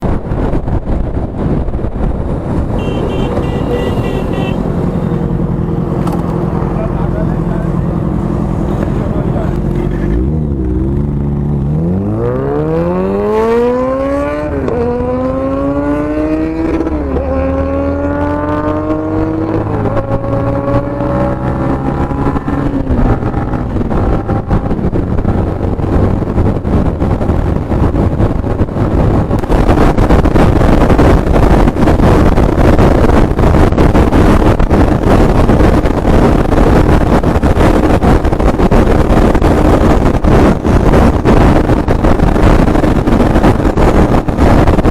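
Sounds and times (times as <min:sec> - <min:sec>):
loud rush of wind noise: 0:00.0 - 0:44.9
motorcycle accelerating through gears: 0:04.5 - 0:44.9.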